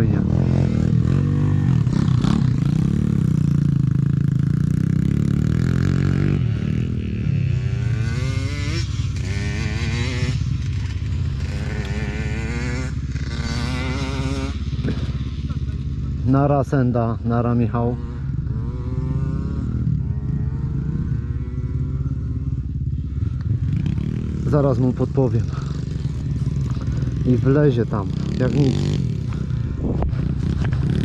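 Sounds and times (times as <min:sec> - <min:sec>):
dirt bike engine idling: 0:00.0 - 0:31.0
motorcycle engine revving: 0:00.0 - 0:31.0.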